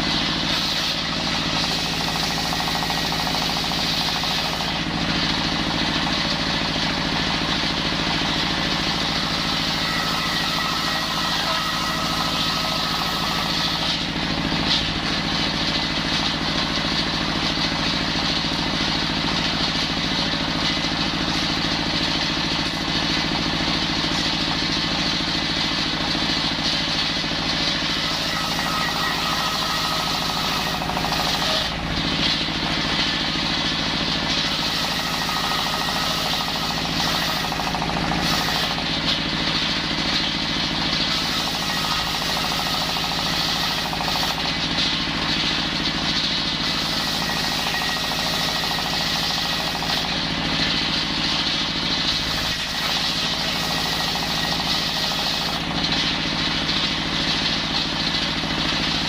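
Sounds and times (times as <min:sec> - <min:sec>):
circular saw running: 0:00.0 - 0:59.0.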